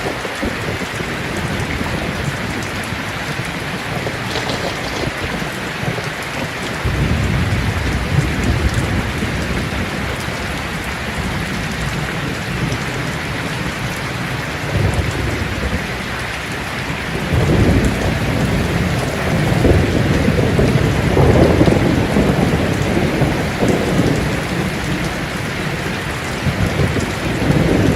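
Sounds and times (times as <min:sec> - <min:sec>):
heavy rain on a tin roof: 0:00.0 - 0:27.9
thunder rumbling: 0:00.0 - 0:27.9.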